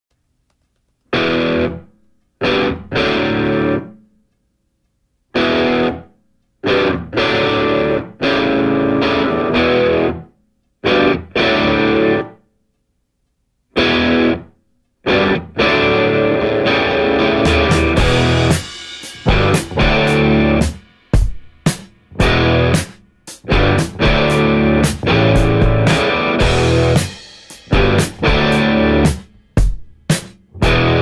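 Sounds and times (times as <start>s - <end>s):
distorted electric guitar chords: 1.2s - 4.0s, 5.3s - 12.4s, 13.8s - 29.8s, 30.5s - 31.0s.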